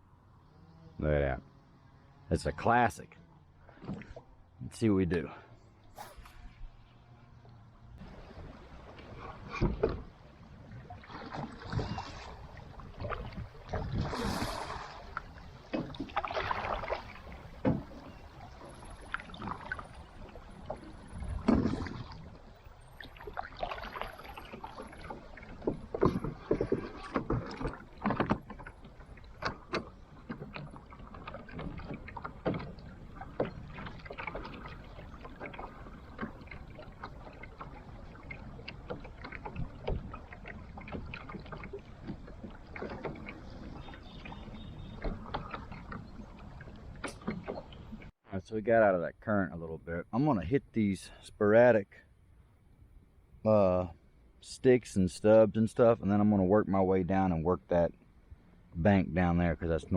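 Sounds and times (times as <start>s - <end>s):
water splashing and sloshing: 0.0s - 48.4s.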